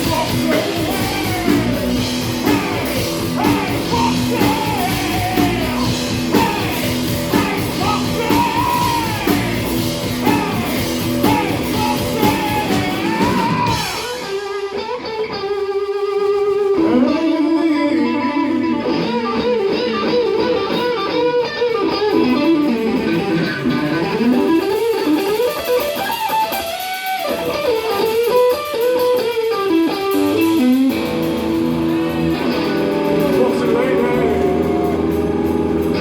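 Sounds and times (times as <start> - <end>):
electric guitar solo: 0.0 - 36.0
rock band playing: 0.0 - 36.0.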